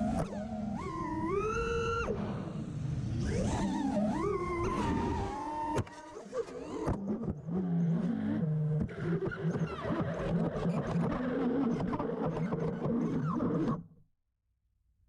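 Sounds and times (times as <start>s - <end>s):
drone motors whining: 0.0s - 13.8s.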